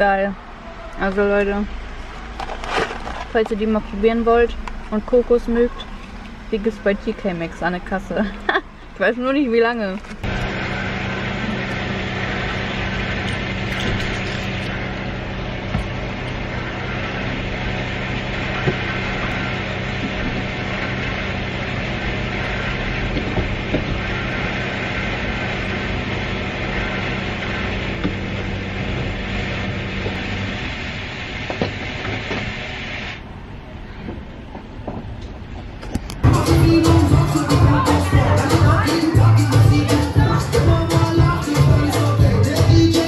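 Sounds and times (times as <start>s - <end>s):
car engine idling: 0.0s - 33.7s, 34.4s - 43.0s.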